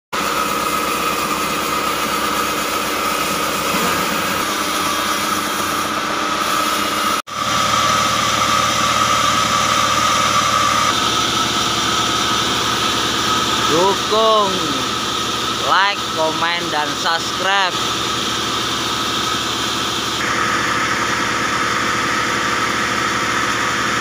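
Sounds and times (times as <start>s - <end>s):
high saw whine: 0.2s - 24.0s
sawmill engine running: 0.2s - 24.0s.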